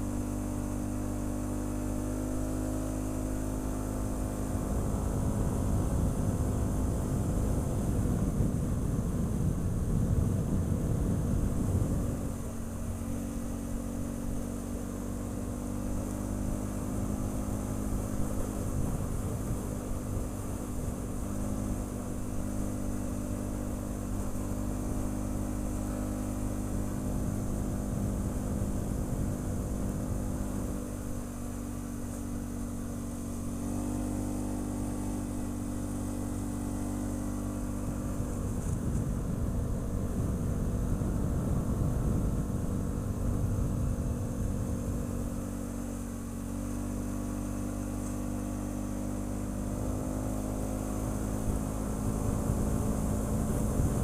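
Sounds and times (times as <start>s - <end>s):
atv engine drone: 0.0s - 54.0s.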